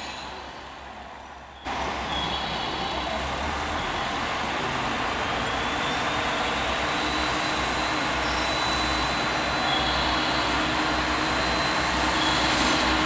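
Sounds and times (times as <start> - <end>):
railcar diesel engine droning: 0.0 - 13.0.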